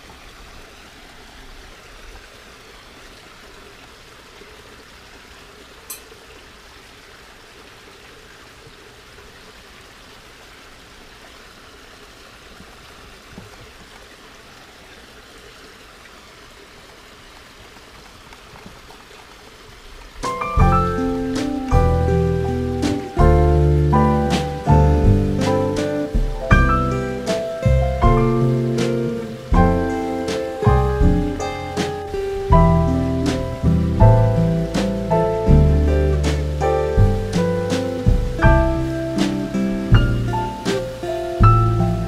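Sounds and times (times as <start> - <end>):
steady water-like background noise: 0.0 - 42.0.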